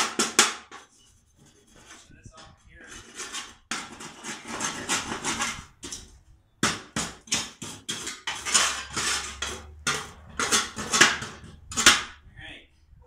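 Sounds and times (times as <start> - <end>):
scraping mower deck: 0.0 - 6.2, 7.1 - 12.2.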